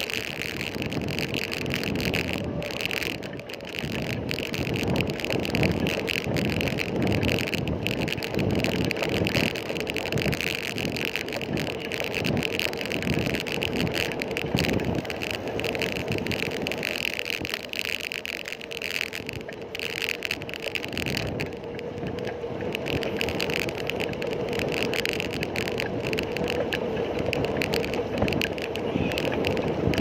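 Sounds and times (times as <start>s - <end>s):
road and traffic rumble: 0.0s - 30.0s
wind on microphone: 0.0s - 30.0s.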